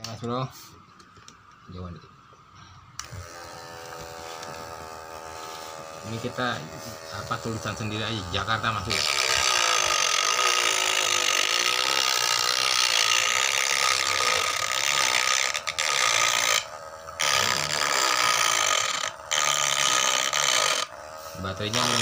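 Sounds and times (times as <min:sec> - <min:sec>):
small electric motor whining: 0:02.9 - 0:22.0
burr bit grinding wood: 0:03.0 - 0:22.0.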